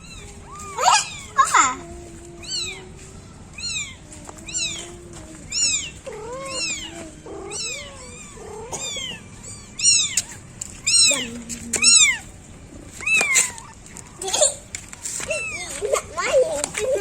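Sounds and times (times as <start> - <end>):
kittens mewing: 0.0 - 17.0.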